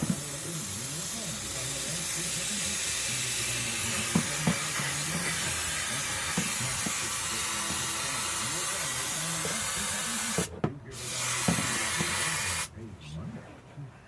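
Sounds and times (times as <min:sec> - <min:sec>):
aerosol spray hissing: 0:00.0 - 0:12.7.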